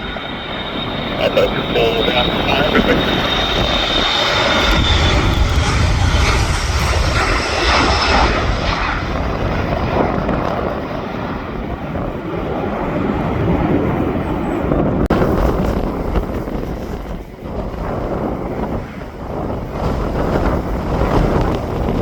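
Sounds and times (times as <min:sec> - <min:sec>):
aircraft engine: 0:00.0 - 0:22.0
wind buffeting microphone: 0:00.0 - 0:22.0.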